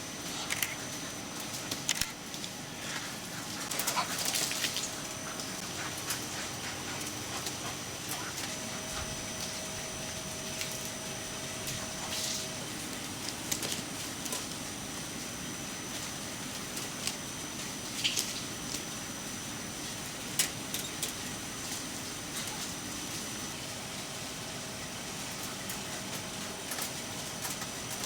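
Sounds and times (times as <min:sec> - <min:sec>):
mechanical hum with high tone: 0:00.0 - 0:28.0.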